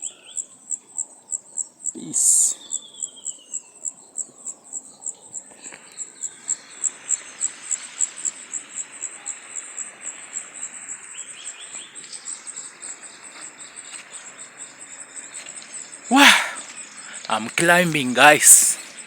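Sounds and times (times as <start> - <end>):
insect chirping: 0.0 - 17.3.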